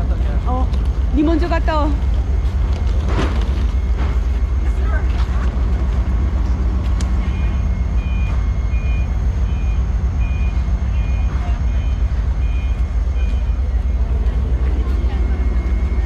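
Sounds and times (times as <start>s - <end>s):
low rumble: 0.0s - 16.0s
reversing alarm beeping: 1.1s - 16.0s.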